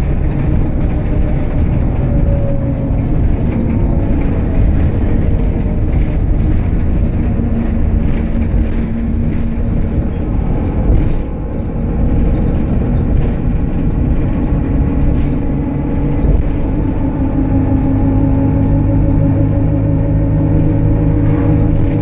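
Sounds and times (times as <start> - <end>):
bus diesel engine rumbling: 0.0 - 22.0
road noise: 0.0 - 22.0.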